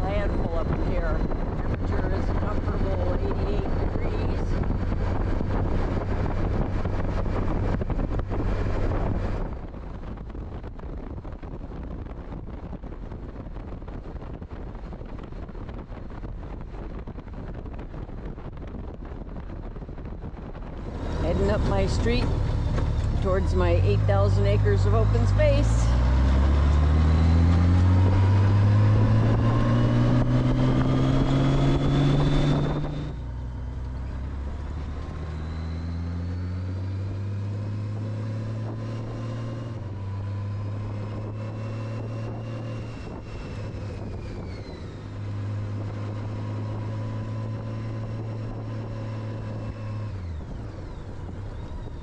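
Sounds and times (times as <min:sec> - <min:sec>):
motorcycle engine accelerating: 0:00.0 - 0:52.0
wind rushing on microphone: 0:00.0 - 0:52.0.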